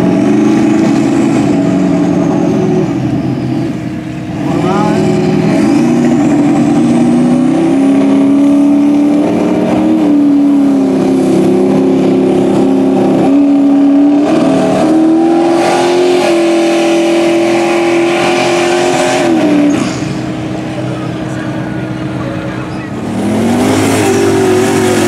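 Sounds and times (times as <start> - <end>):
truck engine revving under load: 0.0 - 25.0.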